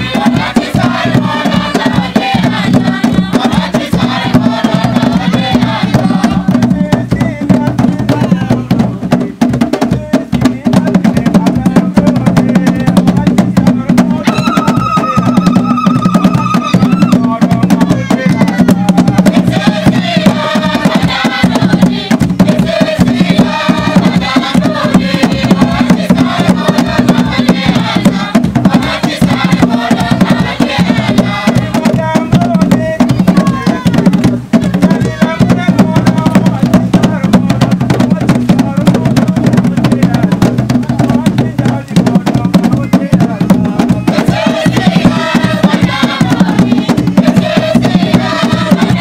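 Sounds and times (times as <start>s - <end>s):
group of voices singing: 0.0s - 49.0s
wooden drums beaten by hand: 0.0s - 49.0s.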